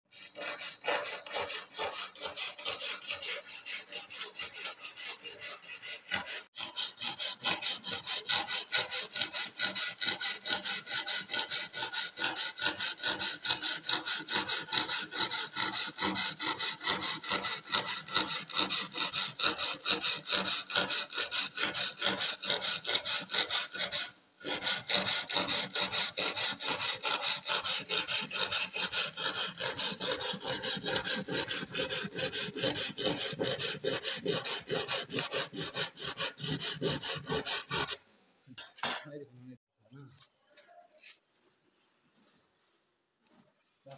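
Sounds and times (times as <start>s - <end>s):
hand saw cutting wood: 0.1s - 38.0s.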